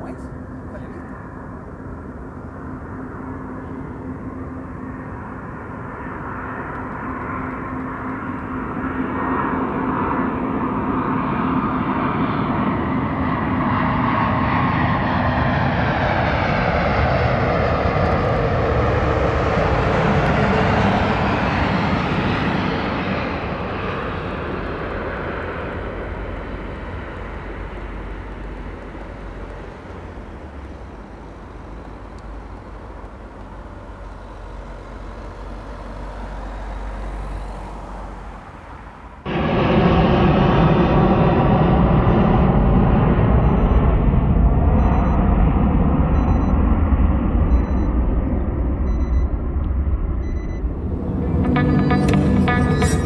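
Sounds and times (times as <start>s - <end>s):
airliner jet noise with whine: 0.0s - 53.0s.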